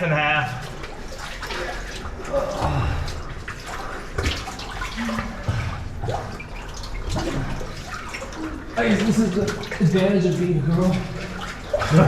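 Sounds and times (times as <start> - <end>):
running water: 0.0 - 12.0
water dripping: 0.0 - 12.0.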